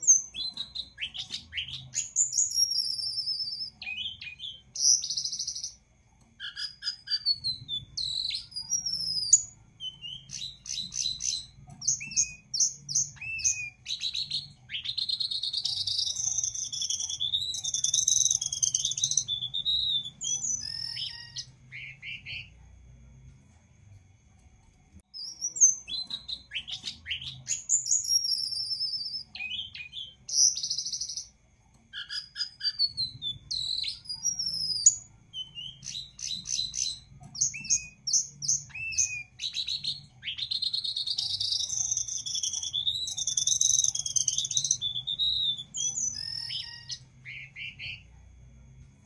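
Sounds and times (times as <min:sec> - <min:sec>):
bird singing: 0:00.0 - 0:23.3, 0:25.0 - 0:48.9.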